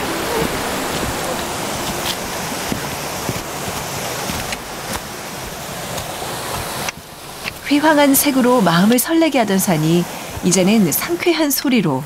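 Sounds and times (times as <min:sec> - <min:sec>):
stream rushing over boulders: 0:00.0 - 0:12.0.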